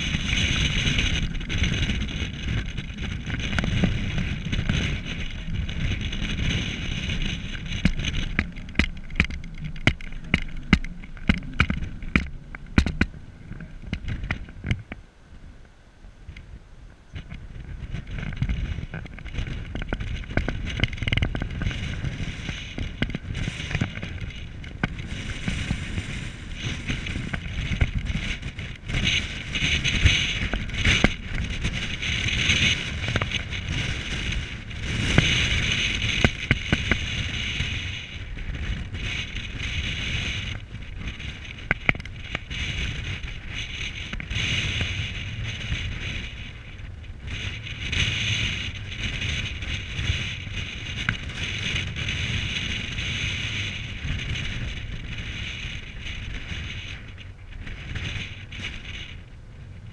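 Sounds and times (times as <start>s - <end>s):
ship engine low rumble: 0.0s - 59.9s
wind buffeting microphone: 0.0s - 59.9s.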